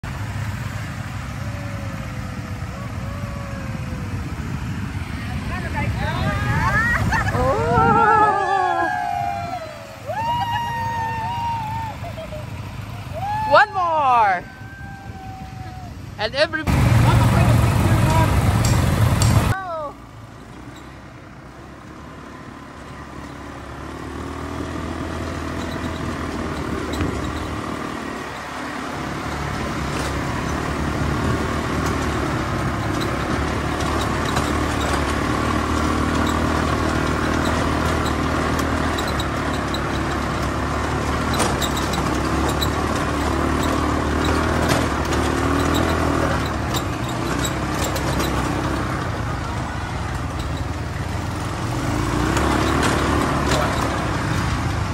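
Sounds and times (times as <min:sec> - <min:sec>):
quad bike engines running: 0:00.0 - 0:54.9.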